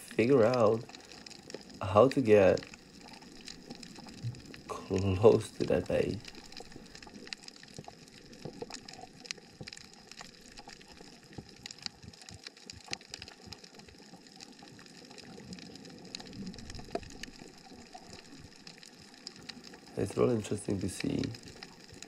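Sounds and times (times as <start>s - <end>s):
low water hiss: 0.0s - 22.0s
snapping shrimp crackle: 2.5s - 22.0s.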